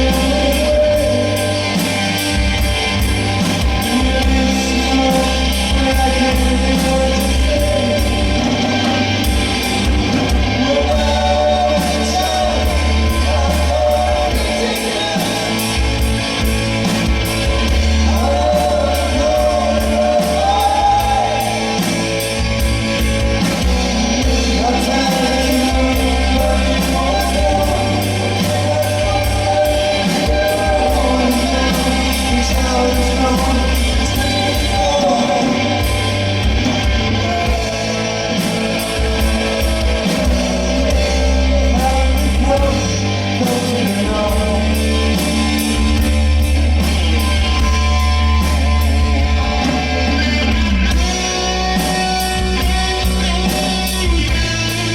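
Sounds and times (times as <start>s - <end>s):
bass guitar: 0.0s - 54.9s
electric guitar: 0.0s - 54.9s
person singing: 0.0s - 54.9s
steady drumbeat: 0.0s - 54.9s.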